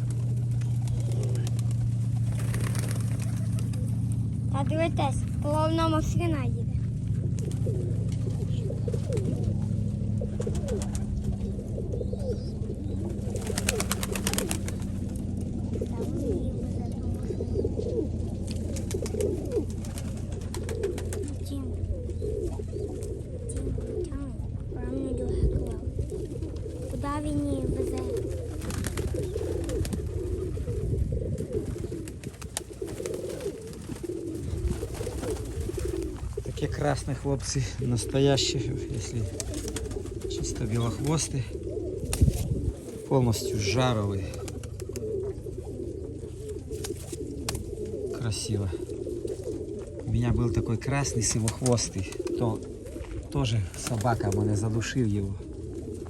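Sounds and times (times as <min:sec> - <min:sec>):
pigeons cooing: 0:00.0 - 0:56.0
steady low hum: 0:00.0 - 0:56.0.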